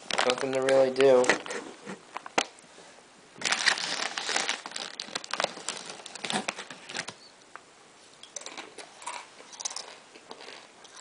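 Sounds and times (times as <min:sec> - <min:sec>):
chip bag crinkling: 0:00.0 - 0:02.5, 0:03.4 - 0:07.2, 0:08.4 - 0:11.0.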